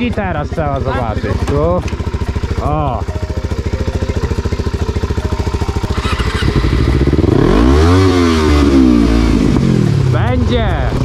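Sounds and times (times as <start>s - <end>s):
motorcycle starter cranking: 0.0s - 8.8s
motorcycle engine revving: 0.0s - 11.0s.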